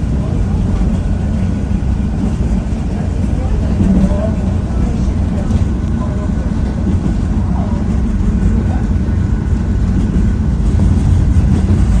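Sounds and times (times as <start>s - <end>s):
train running with low rumble: 0.0s - 12.0s.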